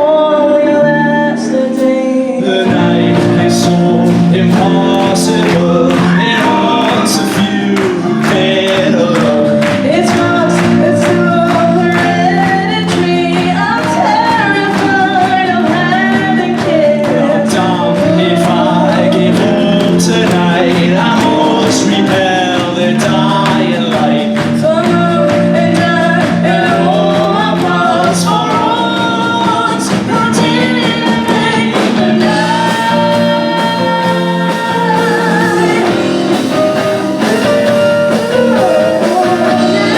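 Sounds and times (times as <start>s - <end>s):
person singing: 0.0s - 39.9s
drum hits: 2.7s - 39.9s.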